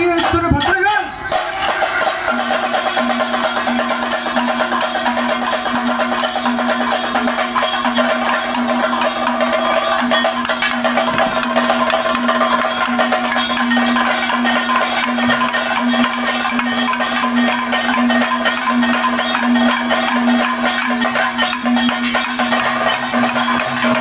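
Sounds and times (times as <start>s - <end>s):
fast drumming: 0.0s - 24.0s
small hand cymbals: 0.0s - 24.0s.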